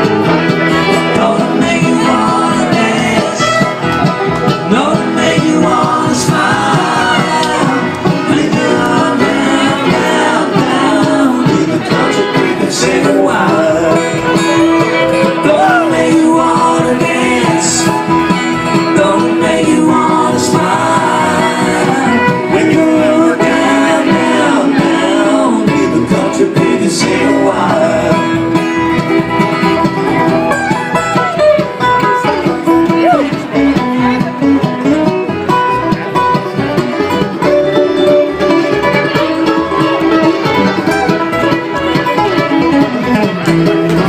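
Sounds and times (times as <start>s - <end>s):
bluegrass band playing: 0.0s - 44.0s.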